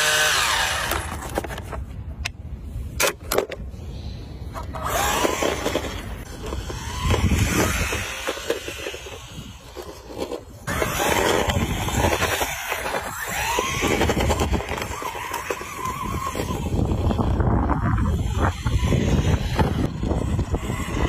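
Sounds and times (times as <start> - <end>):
toy car electric motor whining: 0.0 - 1.6, 4.5 - 21.0.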